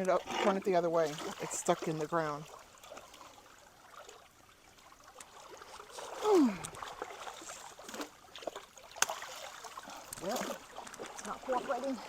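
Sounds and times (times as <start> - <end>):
creek water trickling through culvert: 0.0 - 12.0.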